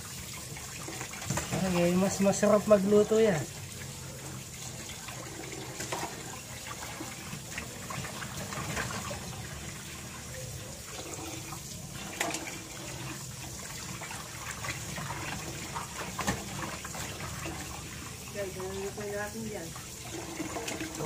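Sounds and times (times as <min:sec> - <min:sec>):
tap water running into metal basin: 0:00.0 - 0:21.0.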